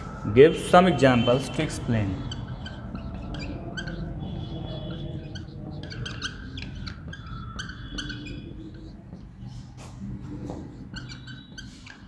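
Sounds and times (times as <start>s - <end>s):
marker squeaking on whiteboard: 0.0s - 12.0s.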